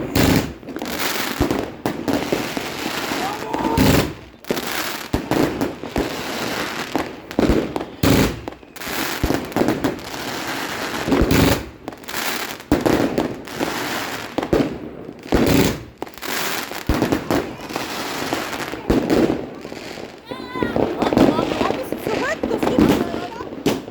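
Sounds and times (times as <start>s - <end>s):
firework bangs: 0.0s - 23.9s
firework crackling: 0.0s - 23.9s.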